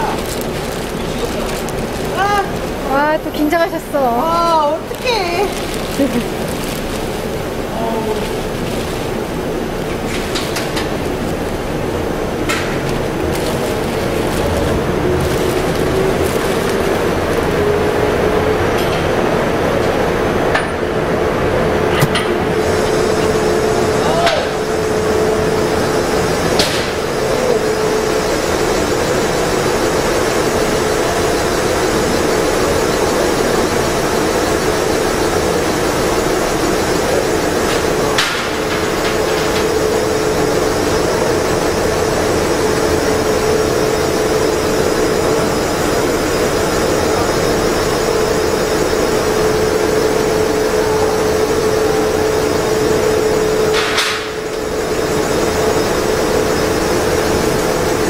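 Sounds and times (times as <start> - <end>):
powder mixer humming: 0.0 - 58.0.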